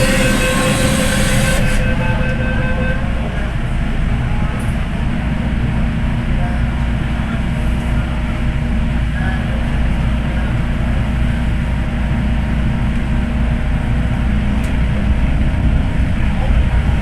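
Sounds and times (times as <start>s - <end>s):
steady low hum: 0.0s - 17.0s
train wheels rumbling on rail: 0.0s - 17.0s.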